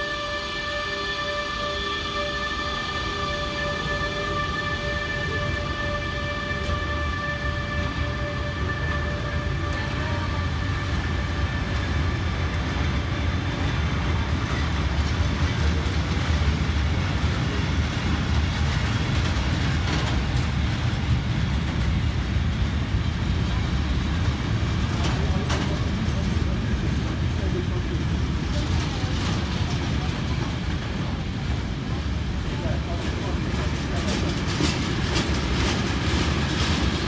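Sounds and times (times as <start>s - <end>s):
electric locomotive whine: 0.0s - 37.0s
freight wagons rumbling on track: 0.0s - 37.0s.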